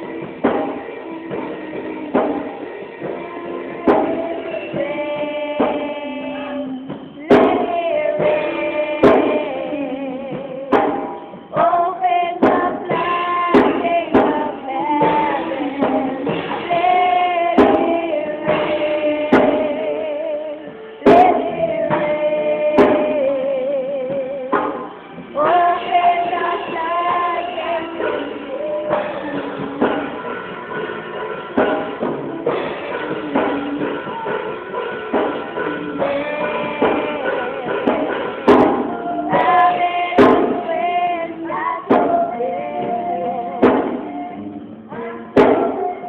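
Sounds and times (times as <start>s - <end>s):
toddler singing into microphone: 0.0s - 30.5s, 31.6s - 46.0s
sharp percussive hits: 0.0s - 46.0s
worship song over backing track: 0.0s - 46.0s.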